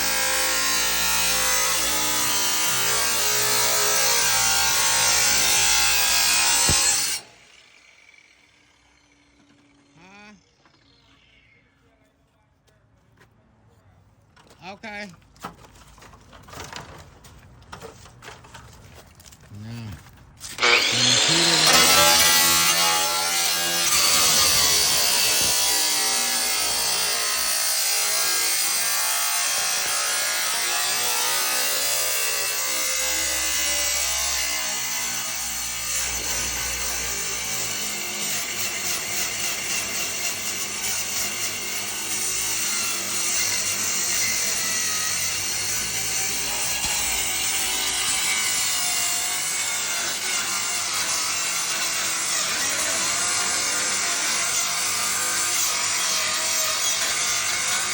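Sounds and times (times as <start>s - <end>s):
angle grinder grinding: 0.0s - 11.8s, 20.4s - 57.9s.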